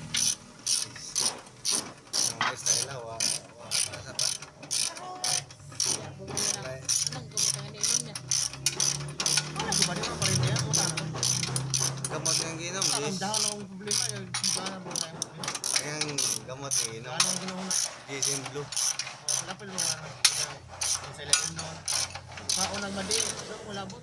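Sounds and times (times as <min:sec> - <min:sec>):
ratchet wrench clicking: 0:00.0 - 0:23.5.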